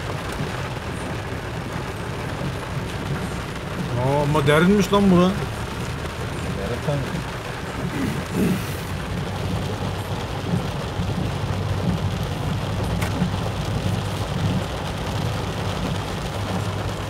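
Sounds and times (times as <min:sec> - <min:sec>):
car engine hum: 0:00.0 - 0:17.0
rain on a car: 0:00.0 - 0:17.0.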